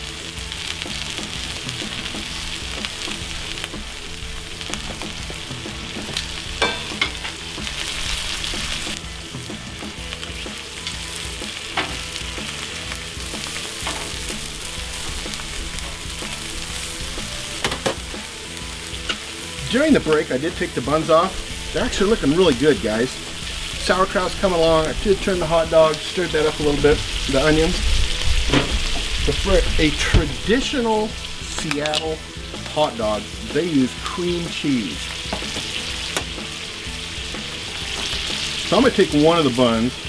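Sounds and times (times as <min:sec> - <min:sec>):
food sizzling on griddle: 0:00.0 - 0:40.0.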